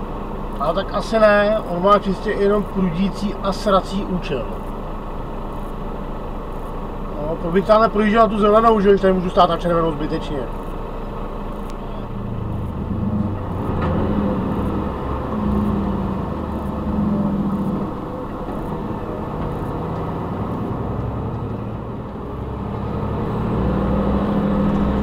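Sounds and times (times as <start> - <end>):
truck diesel engine drone: 0.0 - 25.0.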